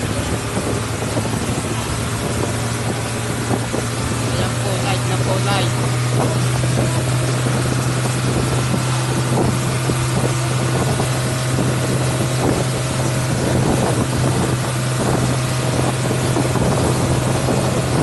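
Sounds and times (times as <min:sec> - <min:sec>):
motorboat engine humming: 0:00.0 - 0:18.0
water rushing along hull: 0:00.0 - 0:18.0
wind on microphone: 0:00.0 - 0:18.0.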